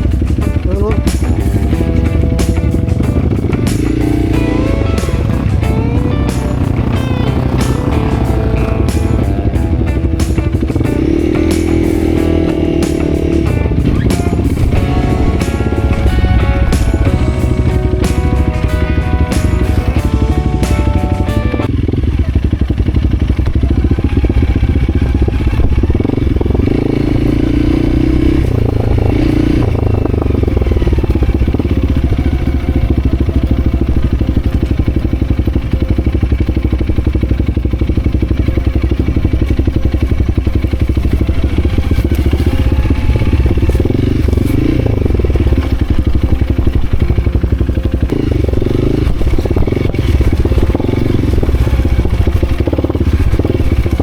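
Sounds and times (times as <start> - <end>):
engine clatter: 0.0 - 54.0
vehicle engine revving: 0.0 - 54.0.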